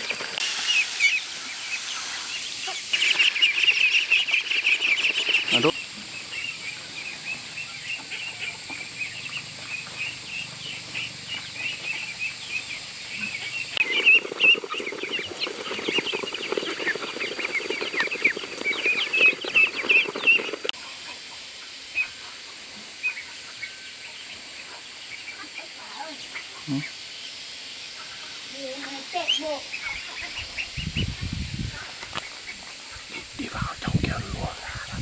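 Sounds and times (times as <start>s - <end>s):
baby poultry peeping: 0.0s - 35.0s.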